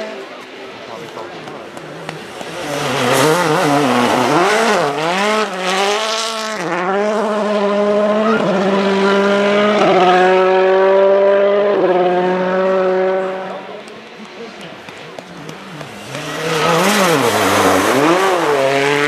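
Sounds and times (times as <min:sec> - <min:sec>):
rally car engine revving: 0:00.0 - 0:19.0
rally engine shifting gears: 0:00.0 - 0:19.0.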